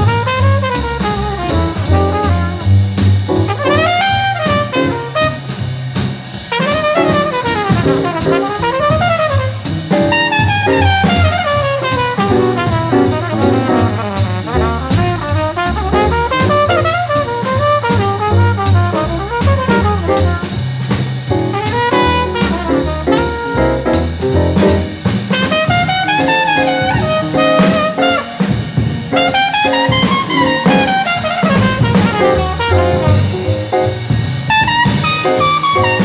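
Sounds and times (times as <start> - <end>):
walking bass line: 0.0 - 5.5, 6.6 - 36.0
trumpet solo: 0.0 - 5.6, 6.5 - 20.6, 21.4 - 36.0
drums on ride cymbal: 0.0 - 36.0.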